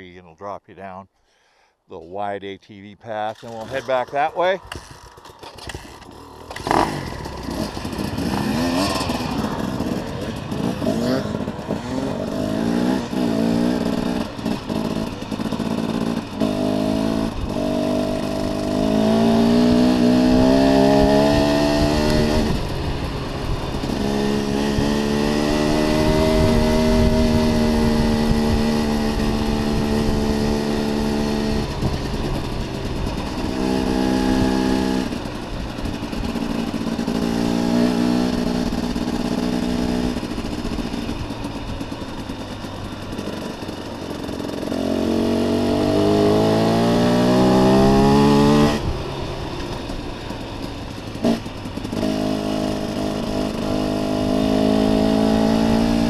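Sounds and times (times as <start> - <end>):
dirt bike engine revving: 3.2 - 56.0.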